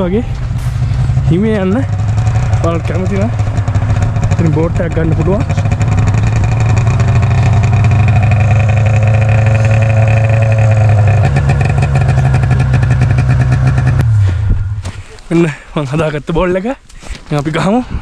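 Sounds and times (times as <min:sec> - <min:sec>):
snowmobile engine droning: 0:00.0 - 0:15.5.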